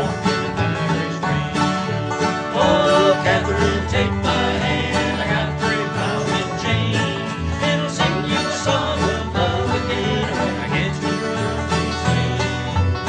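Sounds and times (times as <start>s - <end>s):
plucked string music: 0.0s - 13.0s.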